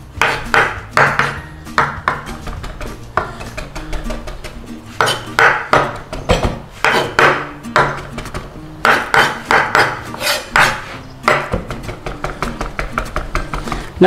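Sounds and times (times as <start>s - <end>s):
knife chopping on wooden board: 0.2s - 14.0s.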